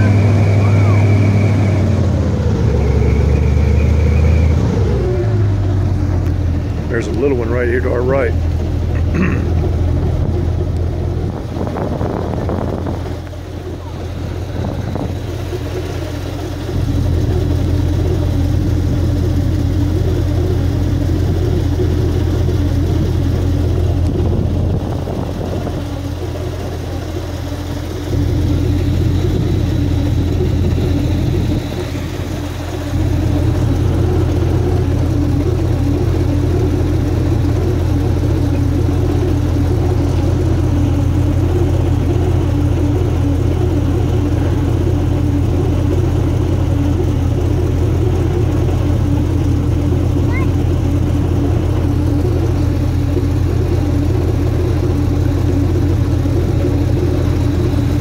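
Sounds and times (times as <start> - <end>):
airboat engine and propeller hum: 0.0 - 58.0.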